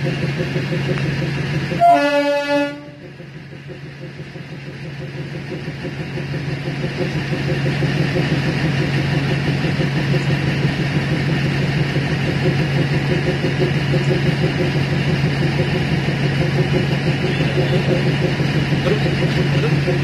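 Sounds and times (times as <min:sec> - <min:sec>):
train diesel engine running: 0:00.0 - 0:20.0.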